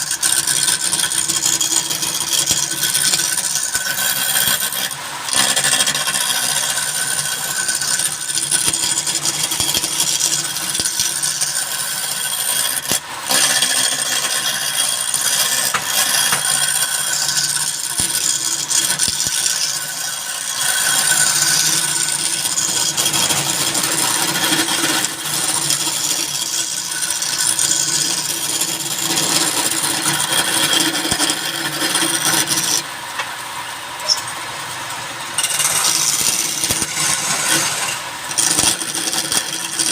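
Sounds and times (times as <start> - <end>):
cutting tool scraping wood: 0.0 - 33.3, 35.4 - 39.9
wood lathe hum: 0.0 - 39.9.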